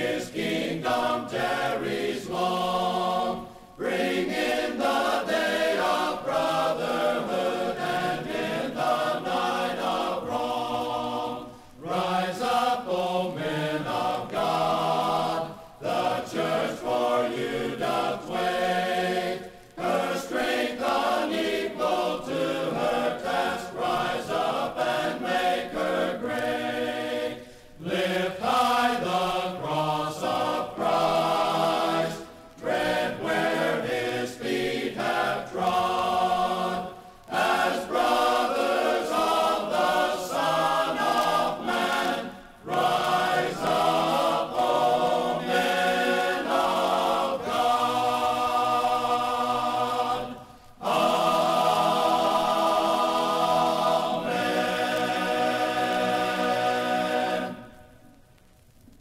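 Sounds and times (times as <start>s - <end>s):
men's chorus singing a hymn: 0.0s - 58.0s.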